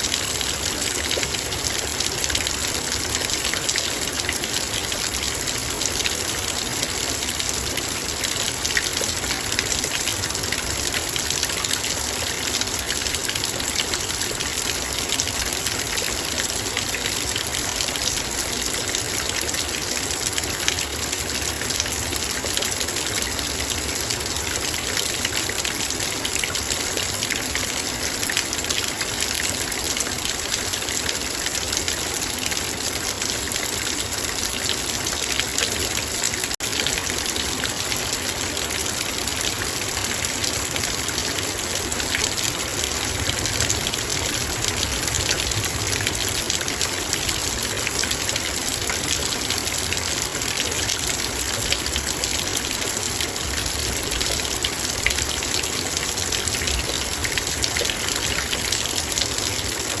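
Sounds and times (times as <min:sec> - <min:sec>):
heavy rain on a metal bowl: 0:00.0 - 1:00.0.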